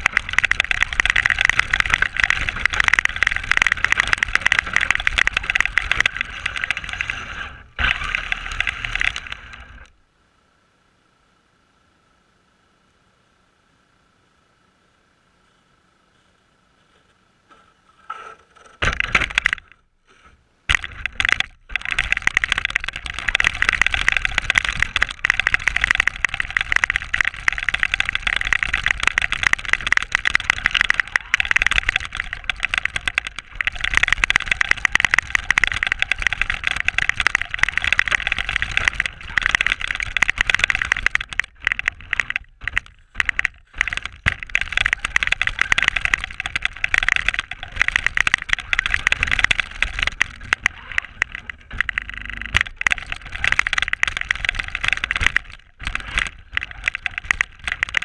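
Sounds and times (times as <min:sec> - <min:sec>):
toy car motor churning snow: 0:00.0 - 0:09.9, 0:20.7 - 0:58.0.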